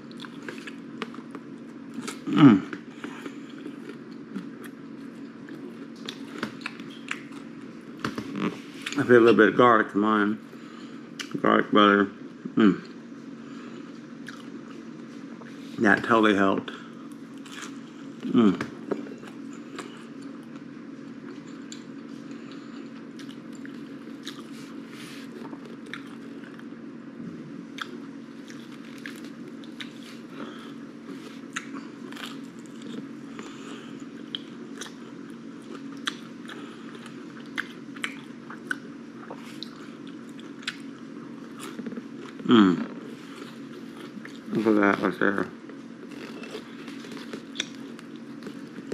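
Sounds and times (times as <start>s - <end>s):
chewing and biting food: 0.0s - 9.1s, 14.2s - 14.8s, 17.1s - 26.7s, 27.7s - 44.6s, 45.6s - 48.9s.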